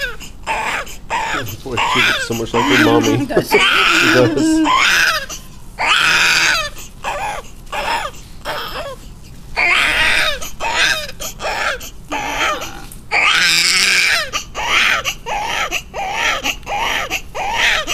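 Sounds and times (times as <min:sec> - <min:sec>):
newborn baby crying: 0:00.0 - 0:17.9.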